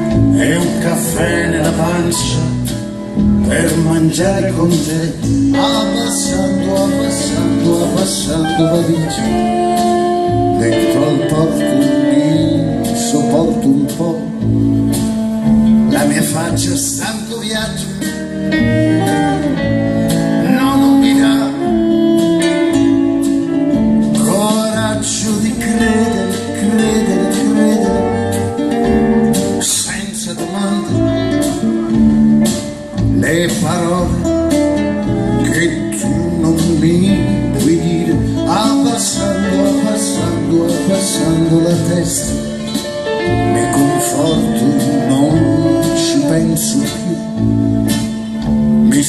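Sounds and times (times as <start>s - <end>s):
man singing: 0.0s - 14.8s, 15.8s - 49.0s
live band playing: 0.0s - 49.0s.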